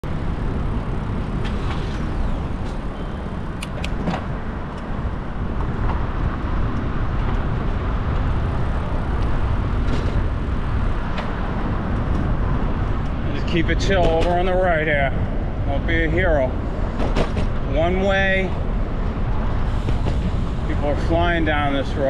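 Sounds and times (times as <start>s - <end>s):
city traffic noise: 0.0s - 22.0s
rush of moving air: 0.0s - 22.0s.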